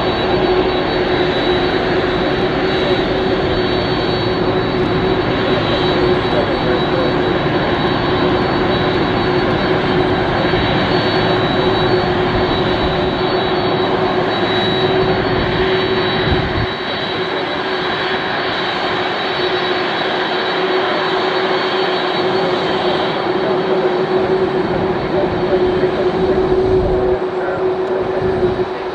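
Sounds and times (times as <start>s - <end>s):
deep engine rumble: 0.0s - 19.0s, 22.2s - 28.9s
jet engines whining: 0.0s - 28.9s.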